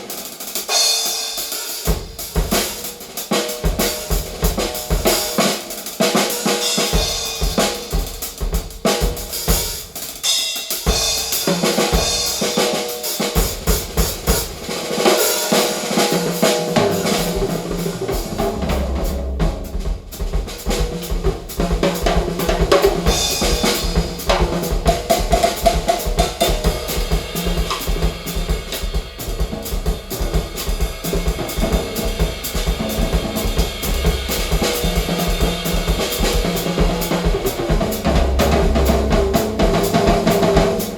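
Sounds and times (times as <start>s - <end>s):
driving drum hits: 0.6s - 40.9s.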